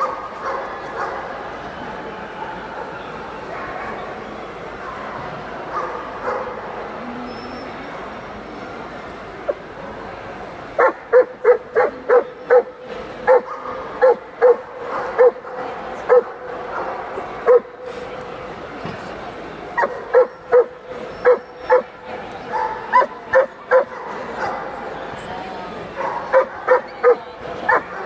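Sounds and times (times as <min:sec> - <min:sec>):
murmur of crowd: 0:00.0 - 0:28.0.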